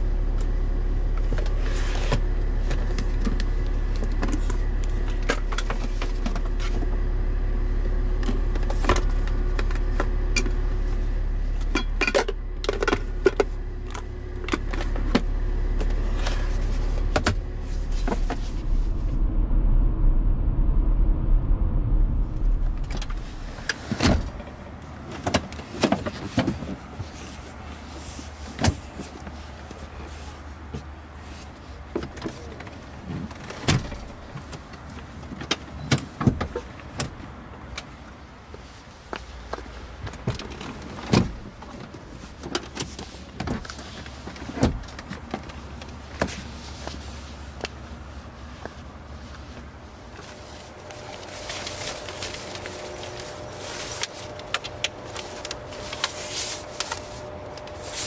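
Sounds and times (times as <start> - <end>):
engine and road noise rumble: 0.0 - 58.0.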